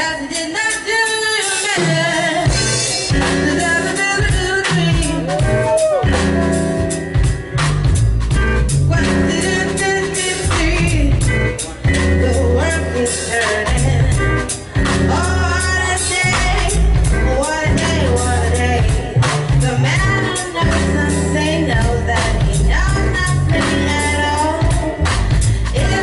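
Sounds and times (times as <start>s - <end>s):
woman singing: 0.0s - 6.9s, 8.8s - 26.0s
keyboard: 0.0s - 26.0s
drum kit strokes: 0.2s - 26.0s
low bass notes: 2.5s - 26.0s.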